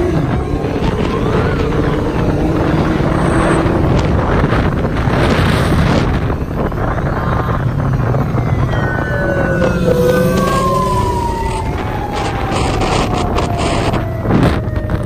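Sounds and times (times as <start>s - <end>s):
siren-like tone sliding down: 0.0s - 15.0s
wind rush on microphone: 0.0s - 15.0s.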